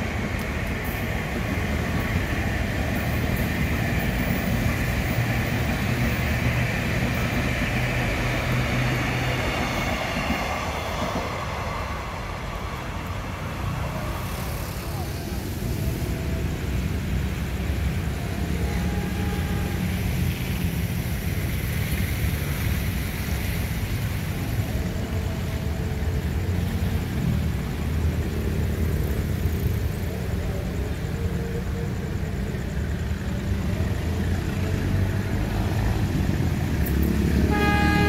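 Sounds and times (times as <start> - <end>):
electric train rumbling past: 0.0 - 38.0
train approaching: 0.0 - 38.0.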